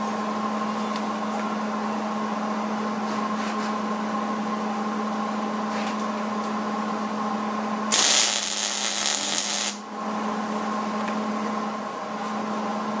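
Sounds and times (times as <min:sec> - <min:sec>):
welder electrical hum: 0:00.0 - 0:13.0.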